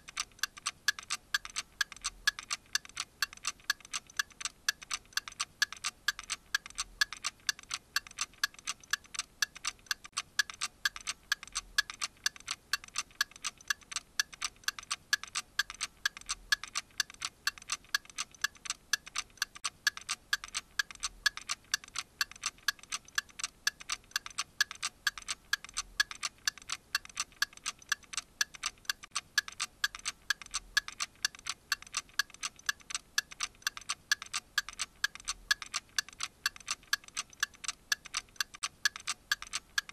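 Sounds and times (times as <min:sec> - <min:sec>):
clock-like ticking: 0:00.0 - 0:39.9.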